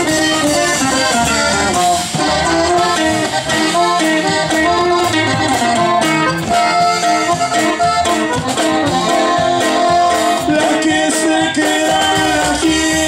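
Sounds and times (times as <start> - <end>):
accordion melody: 0.0 - 13.0
band playing guitar bass drums: 0.0 - 13.0.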